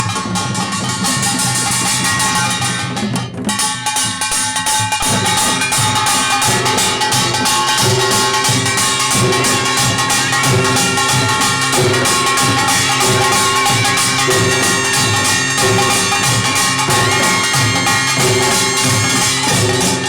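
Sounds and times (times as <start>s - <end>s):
drums: 0.0s - 20.0s
small gongs clanging: 0.0s - 20.0s.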